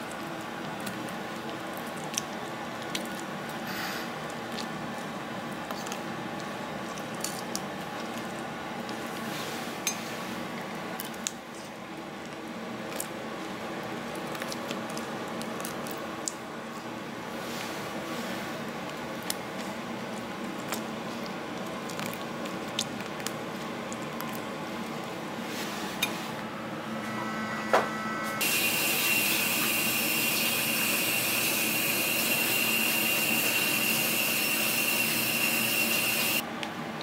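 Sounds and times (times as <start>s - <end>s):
steady background hum: 0.0s - 37.0s.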